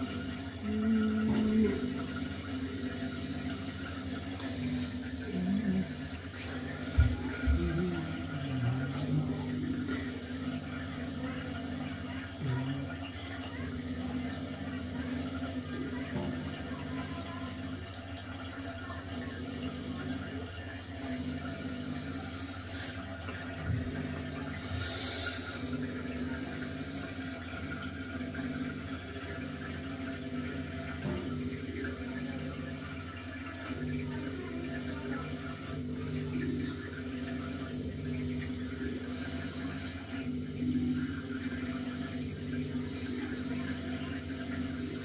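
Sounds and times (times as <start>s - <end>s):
aquarium pump humming: 0.0s - 45.0s
water noise: 0.0s - 45.0s.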